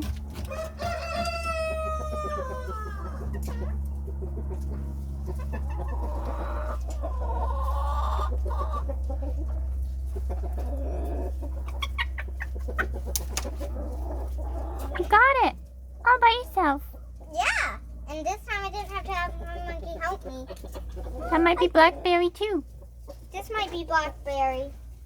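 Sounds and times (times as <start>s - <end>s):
chickens clucking: 0.0s - 25.0s
steady low hum: 0.0s - 25.0s.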